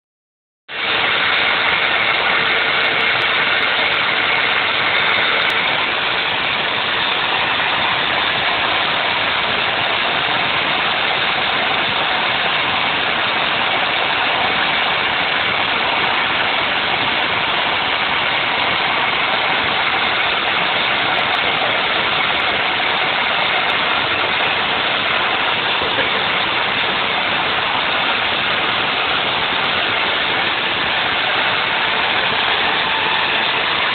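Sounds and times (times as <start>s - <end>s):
router motor milling foam: 0.7s - 33.9s.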